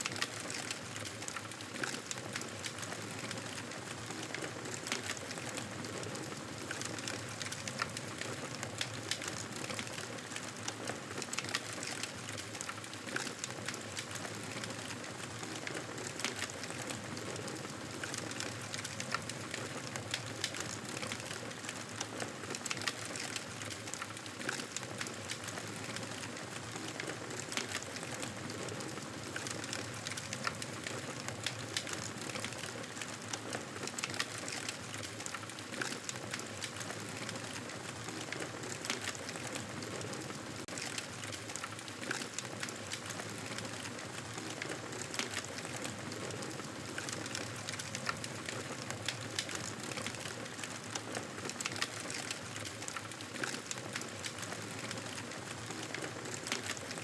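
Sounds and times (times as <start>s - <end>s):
campfire crackling and popping: 6.6s - 57.0s.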